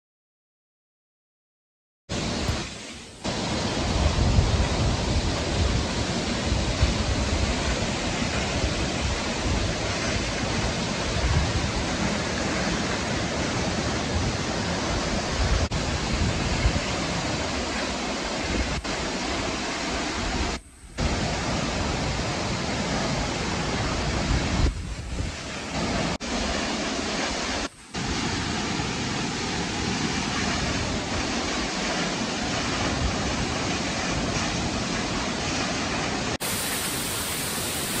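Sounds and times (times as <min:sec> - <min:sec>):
waterfall crashing into pool: 0:02.1 - 0:38.0.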